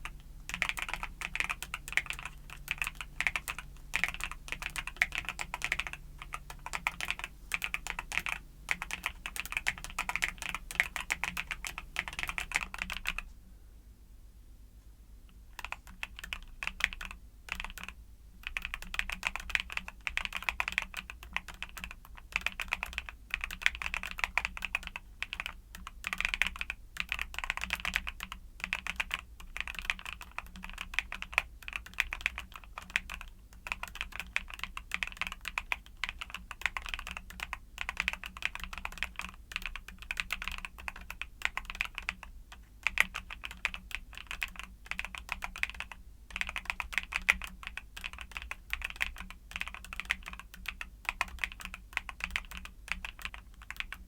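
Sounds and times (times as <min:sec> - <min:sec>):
typing on mechanical keyboard: 0:00.0 - 0:13.3, 0:15.6 - 0:54.0.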